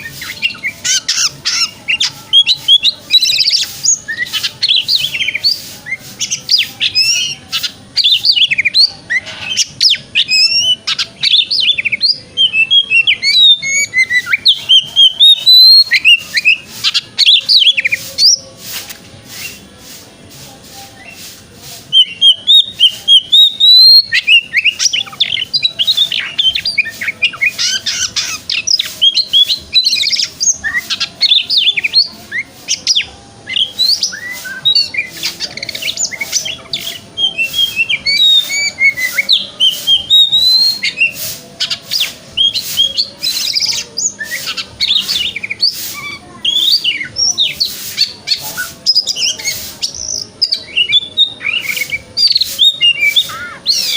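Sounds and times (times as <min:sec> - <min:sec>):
bird singing whistled notes: 0:00.0 - 0:18.4, 0:19.3 - 0:19.6, 0:20.9 - 0:53.9.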